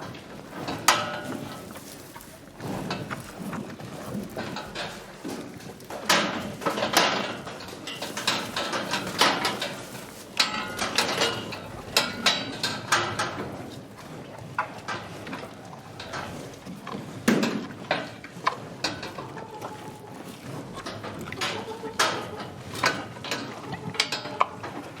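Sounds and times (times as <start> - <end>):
cows tearing and chewing grass: 0.0 - 25.0.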